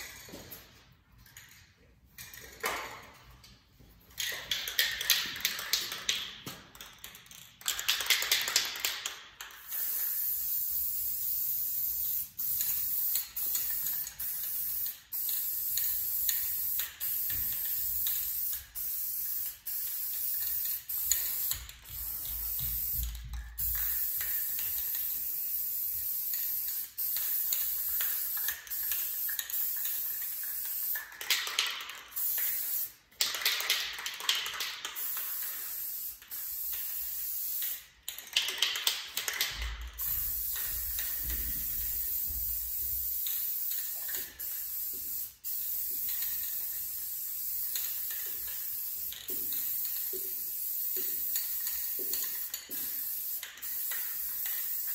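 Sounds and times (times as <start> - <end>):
spray can rattling when shaken: 4.0 - 54.9
spray paint can hissing: 4.2 - 54.9.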